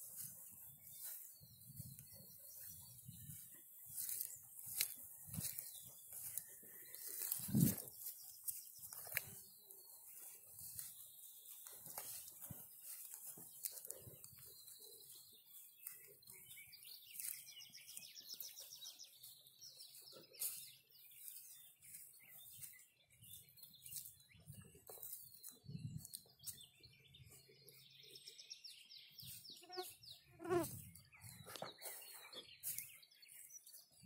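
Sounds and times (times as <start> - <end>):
footsteps through grass: 0.0 - 28.2, 29.0 - 34.0
songbirds trilling: 0.0 - 34.0.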